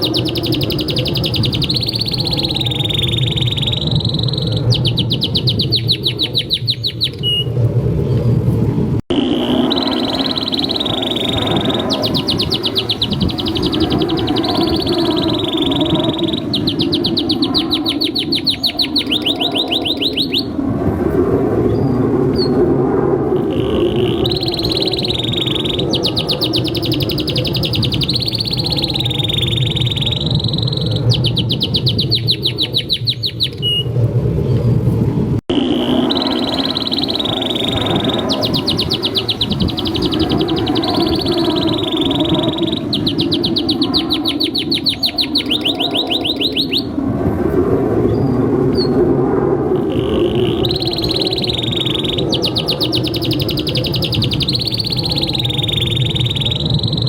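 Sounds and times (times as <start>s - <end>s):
canary singing trills: 0.0s - 7.5s, 9.1s - 20.6s, 23.4s - 33.9s, 35.5s - 46.9s, 49.8s - 57.0s.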